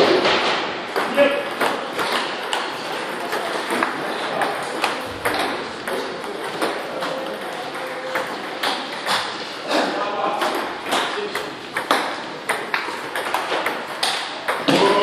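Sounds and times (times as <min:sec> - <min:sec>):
table tennis balls clicking: 0:00.9 - 0:09.4, 0:10.3 - 0:15.0.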